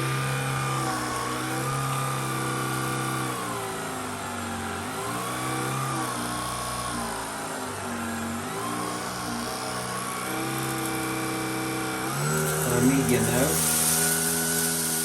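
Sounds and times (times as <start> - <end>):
vacuum cleaner running on carpet: 0.0 - 15.0.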